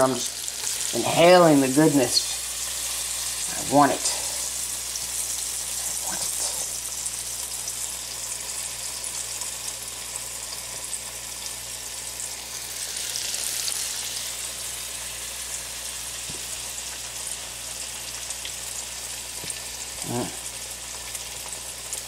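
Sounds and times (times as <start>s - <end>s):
zucchini sizzling in a pan: 0.0s - 22.0s.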